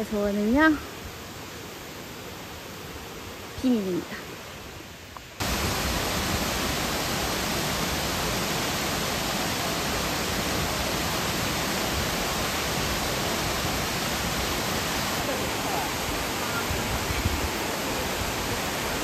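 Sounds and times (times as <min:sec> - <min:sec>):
faint outdoor hiss: 0:00.0 - 0:19.0
waterfall rushing: 0:00.0 - 0:19.0.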